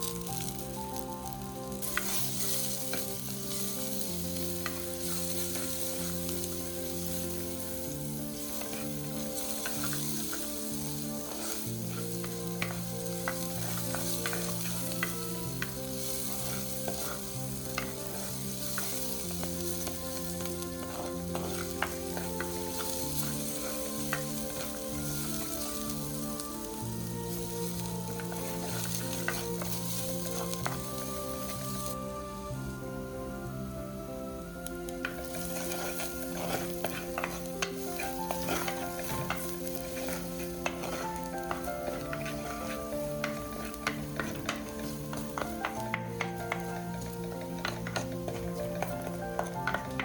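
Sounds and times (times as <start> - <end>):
utensil scraping a pan: 0.0 - 32.0, 34.6 - 50.0
curry sizzling in a pan: 0.0 - 50.0
soft background music: 0.0 - 50.0.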